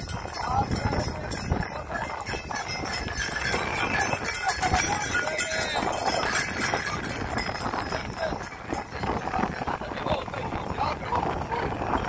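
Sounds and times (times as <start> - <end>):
crowd talking: 0.0 - 12.0
harness bells ringing: 0.0 - 12.0
hooves clopping: 0.0 - 12.0.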